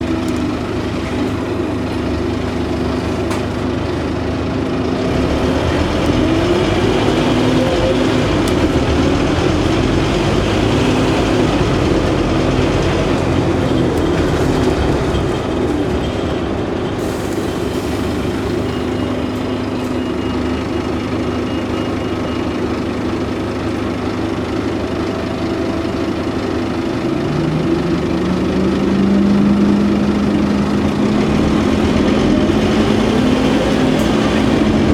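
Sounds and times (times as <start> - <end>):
bus diesel engine drone: 0.0 - 34.9.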